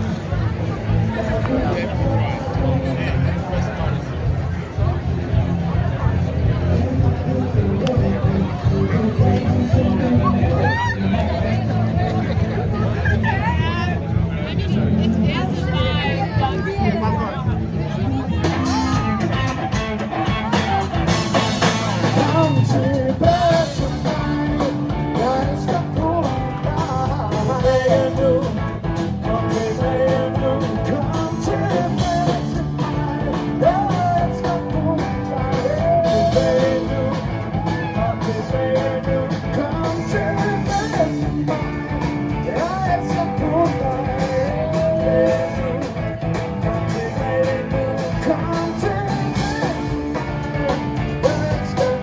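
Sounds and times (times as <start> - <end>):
live rock band with singer: 0.0 - 52.0.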